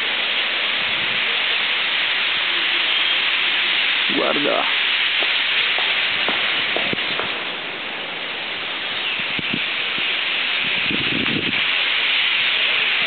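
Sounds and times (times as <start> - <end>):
huge flock of starlings chattering: 0.0 - 7.3, 8.7 - 13.0.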